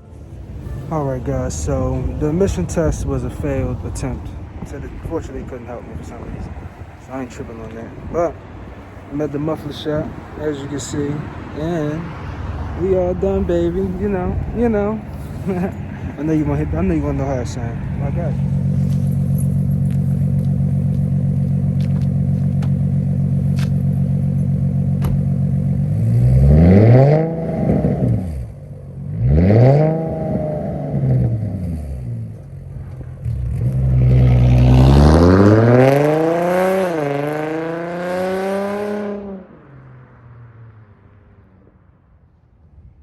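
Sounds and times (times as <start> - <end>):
car engine idling and revving: 0.0 - 42.6.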